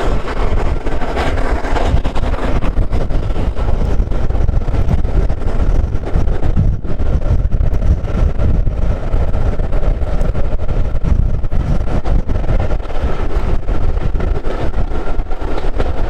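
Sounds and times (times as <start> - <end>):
train rumbling: 0.0 - 16.0
wind buffeting microphone: 0.0 - 16.0.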